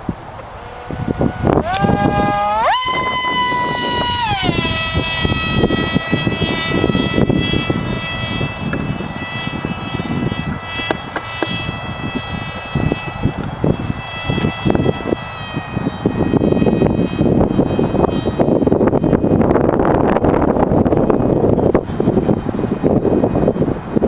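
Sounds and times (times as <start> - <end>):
small engine high-pitched whine: 0.0 - 24.0.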